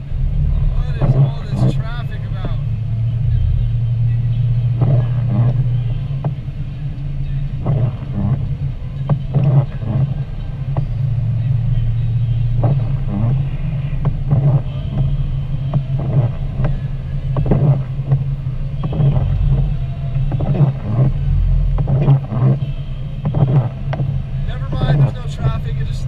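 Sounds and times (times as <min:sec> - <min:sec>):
engine and tyre hum: 0:00.0 - 0:26.0.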